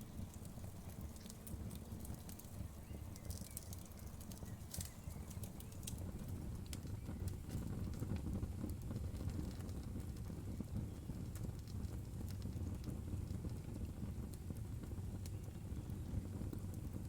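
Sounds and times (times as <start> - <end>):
burning wood crackling: 0.0 - 17.0
flames rumbling: 0.0 - 17.0.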